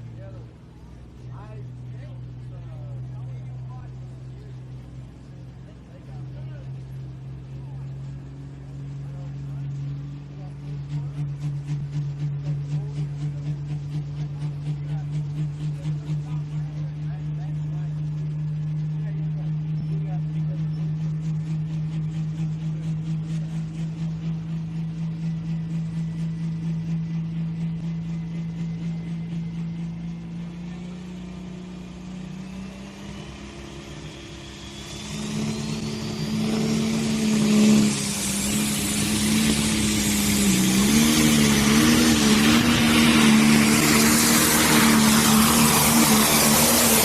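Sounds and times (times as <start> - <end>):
diesel engine running hard: 0.0 - 47.0
rising turbo whine: 0.0 - 47.0.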